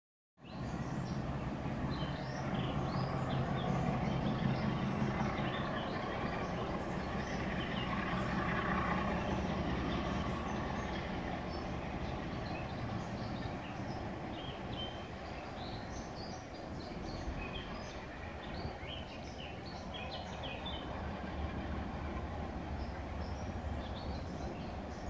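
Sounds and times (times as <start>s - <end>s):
birds chirping: 0.4s - 25.0s
diesel locomotive accelerating: 0.6s - 25.0s.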